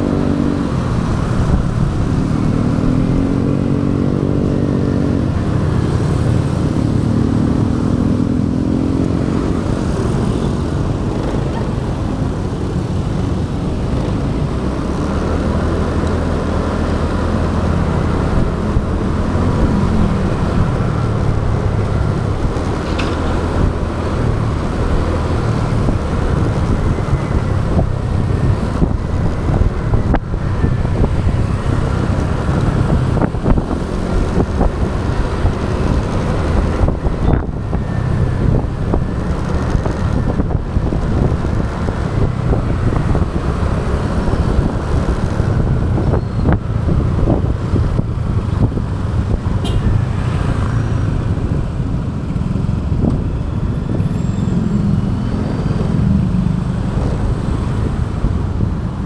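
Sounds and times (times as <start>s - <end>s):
city traffic: 0.0s - 59.0s
motorbike engine and wind noise: 0.0s - 59.0s.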